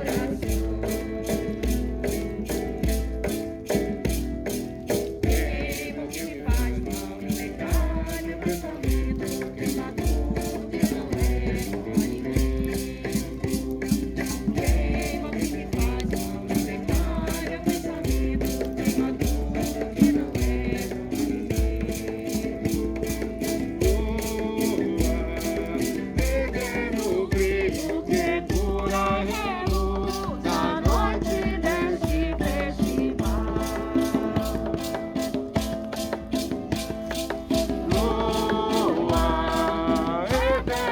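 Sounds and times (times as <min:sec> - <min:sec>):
maracas shaken in rhythm: 0:00.0 - 0:40.9
voices singing melody: 0:00.0 - 0:40.9.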